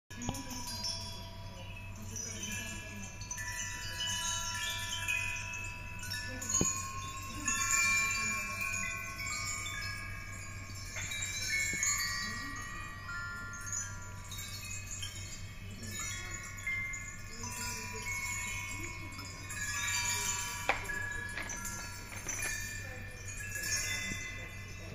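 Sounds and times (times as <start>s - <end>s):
ringing metallic chime tones: 0.1s - 24.9s.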